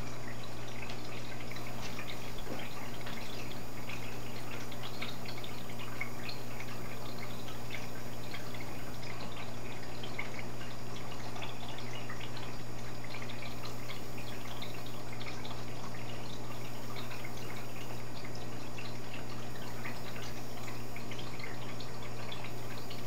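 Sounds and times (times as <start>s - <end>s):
aquarium pump humming: 0.0s - 23.0s
aquarium water trickling and bubbling: 0.0s - 23.0s.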